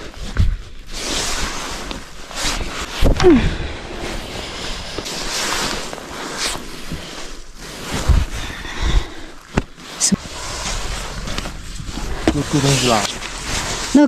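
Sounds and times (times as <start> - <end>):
rustling and shuffling of bedding: 0.0 - 14.0.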